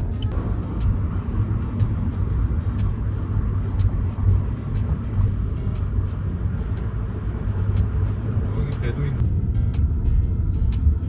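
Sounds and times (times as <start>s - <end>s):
car road and engine rumble: 0.0s - 11.0s
sharp ticking: 0.2s - 10.0s.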